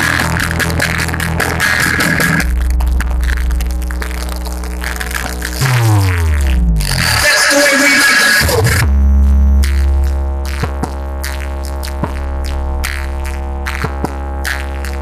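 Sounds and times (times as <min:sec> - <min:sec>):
deep bass: 0:00.0 - 0:15.0
loud electronic dance music: 0:00.0 - 0:15.0.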